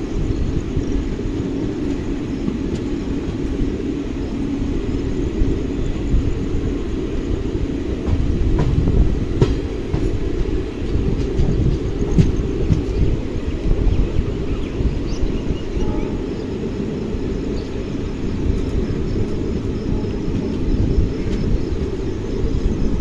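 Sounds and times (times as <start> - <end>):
train coaches rumbling on track: 0.0 - 23.0.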